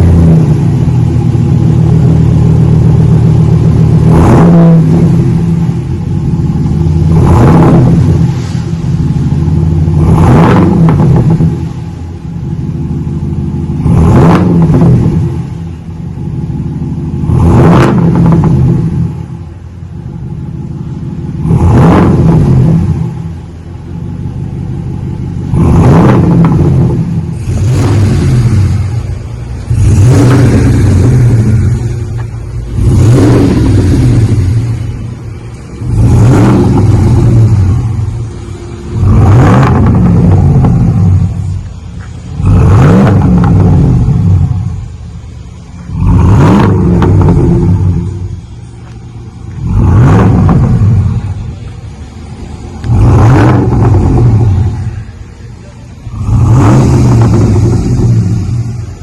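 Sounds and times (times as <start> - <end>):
engine revving deep rumble: 0.0 - 59.0.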